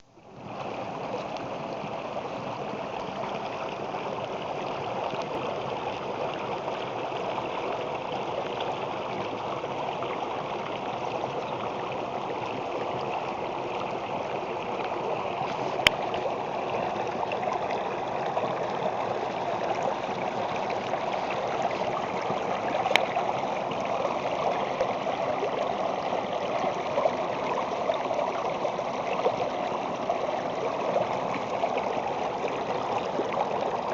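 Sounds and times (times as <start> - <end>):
stream flowing: 0.0 - 33.9.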